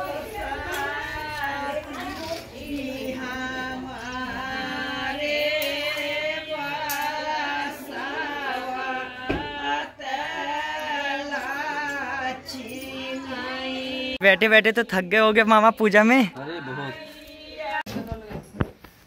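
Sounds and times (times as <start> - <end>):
woman singing: 0.0 - 14.2, 16.8 - 18.5.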